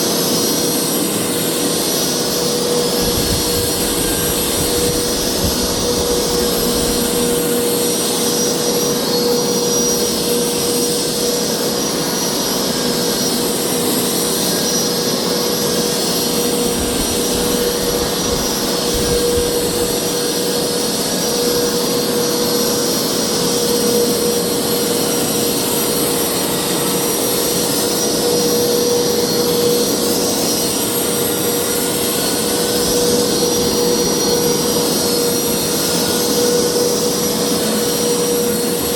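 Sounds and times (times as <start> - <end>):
carpet cleaner motor whining: 0.1 - 38.9.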